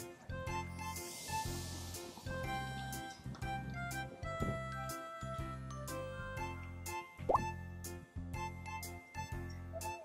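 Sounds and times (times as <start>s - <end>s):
cheerful background music: 0.0s - 10.0s.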